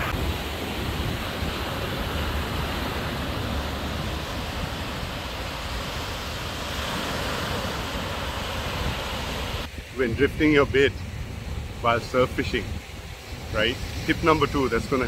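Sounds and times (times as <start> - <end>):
sea surf washing over rocks: 0.0 - 15.0
wind rumble on microphone: 0.0 - 15.0.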